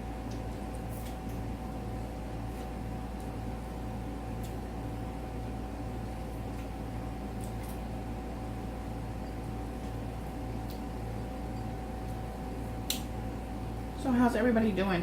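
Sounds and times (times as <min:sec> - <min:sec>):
machine hum with pulsing throb: 0:00.0 - 0:14.8.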